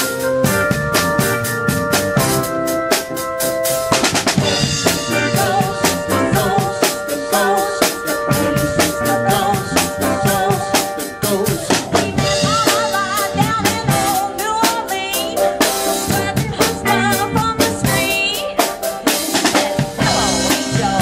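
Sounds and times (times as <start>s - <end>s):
drum kit beat: 0.0s - 21.0s
live band playing: 0.0s - 21.0s.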